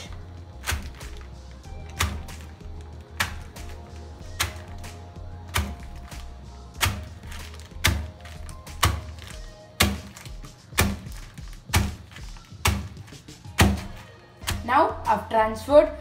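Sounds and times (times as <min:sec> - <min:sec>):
pestle thudding on tabletop: 0:00.1 - 0:14.7.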